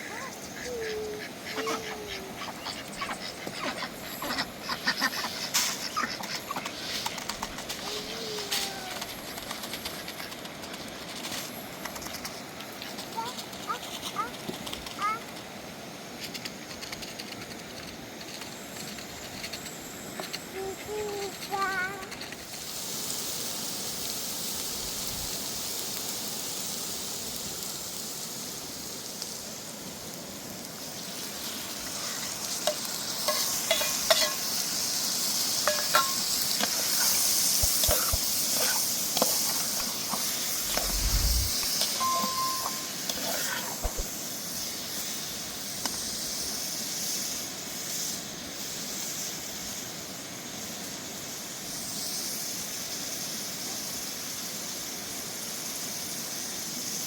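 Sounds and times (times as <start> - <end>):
food sizzling in a pan: 0.0 - 10.2, 18.1 - 57.0.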